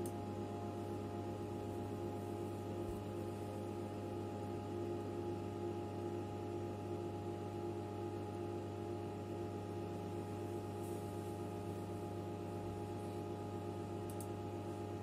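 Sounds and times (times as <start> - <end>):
computer machine hum: 0.0 - 15.0.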